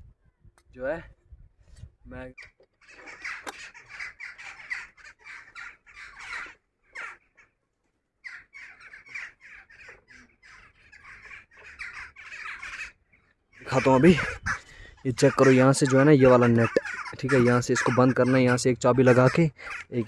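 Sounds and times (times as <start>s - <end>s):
bird harsh calls: 2.2s - 20.0s.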